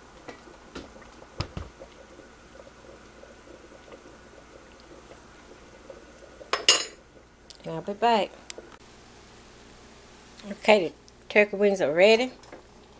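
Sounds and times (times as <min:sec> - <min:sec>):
pot simmering and bubbling: 0:00.0 - 0:12.9.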